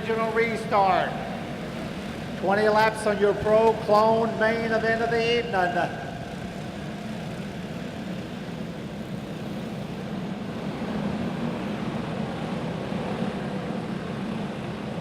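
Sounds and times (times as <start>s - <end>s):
kart engines droning: 0.0s - 15.0s.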